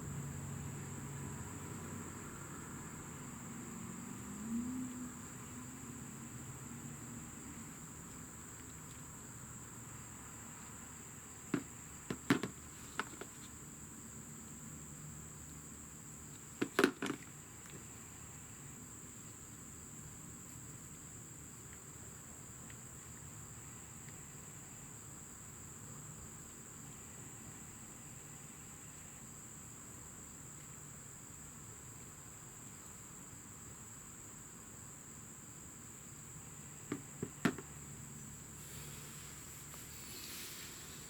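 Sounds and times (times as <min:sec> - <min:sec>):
cricket trilling: 0:00.0 - 0:41.0.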